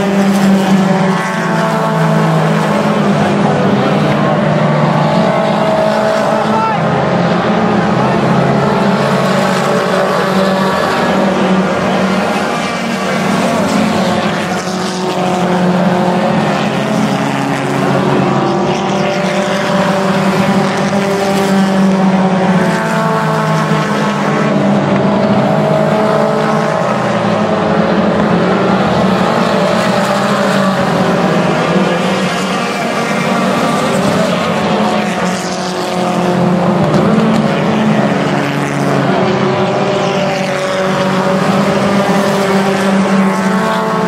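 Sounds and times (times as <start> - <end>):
stock car engines racing: 0.0 - 44.0.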